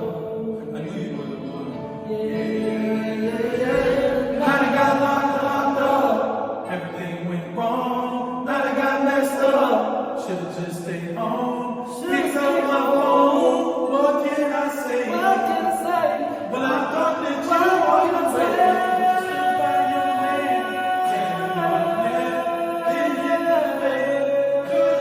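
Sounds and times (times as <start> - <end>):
group singing in harmony: 0.0 - 25.0.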